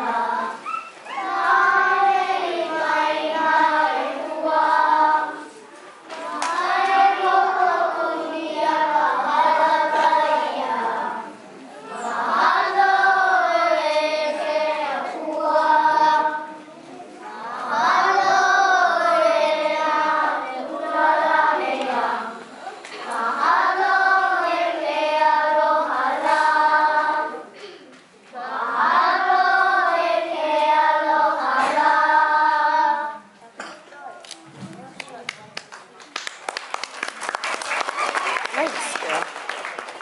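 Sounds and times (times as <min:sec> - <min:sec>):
children singing unaccompanied: 0:00.0 - 0:33.7.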